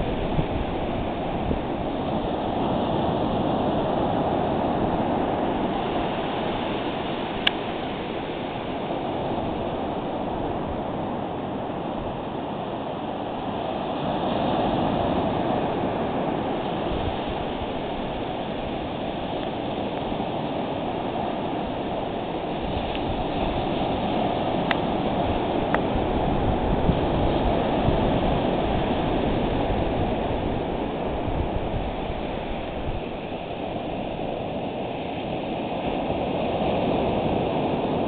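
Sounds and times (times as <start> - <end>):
surf washing onto beach: 0.0 - 38.0.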